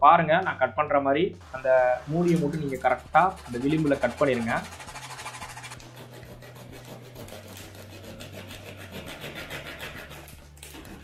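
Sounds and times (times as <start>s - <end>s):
saw rasping through plastic bottle: 2.1s - 11.0s.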